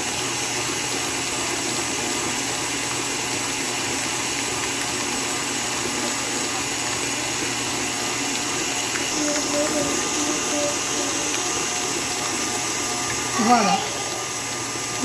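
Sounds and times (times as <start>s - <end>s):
stand mixer running: 0.0s - 15.0s.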